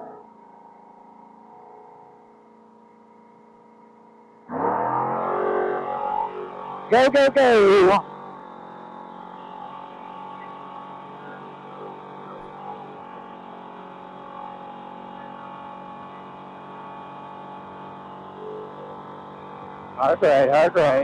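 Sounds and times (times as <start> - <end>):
race car engine at high speed: 0.0 - 21.0.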